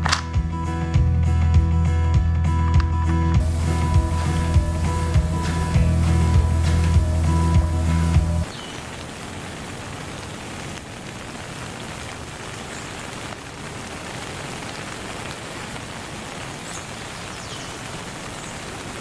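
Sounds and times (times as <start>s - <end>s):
steady rain: 3.4s - 19.0s.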